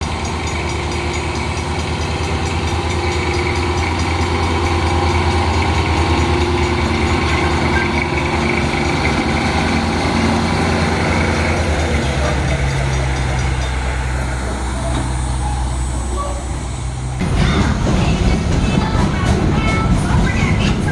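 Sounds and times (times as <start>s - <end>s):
engine running with low hum: 0.0s - 20.9s.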